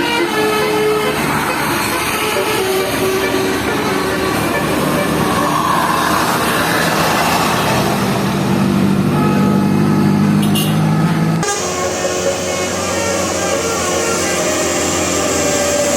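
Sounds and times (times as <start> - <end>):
large vehicle passing: 0.0 - 15.9
low engine drone: 0.0 - 15.9.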